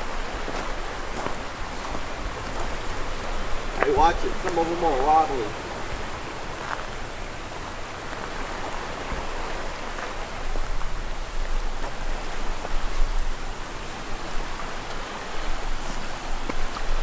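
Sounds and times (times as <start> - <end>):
creek water rushing over rocks: 0.0 - 17.0.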